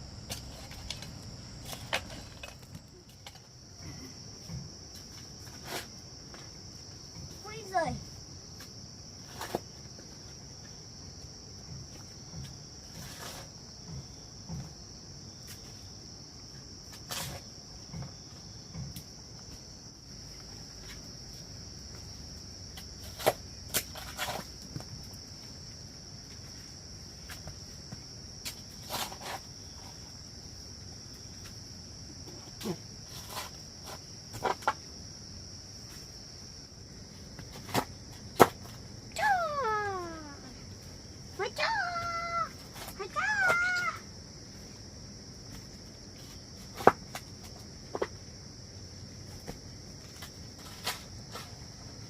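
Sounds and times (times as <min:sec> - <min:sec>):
insect chorus: 0:00.0 - 0:52.0.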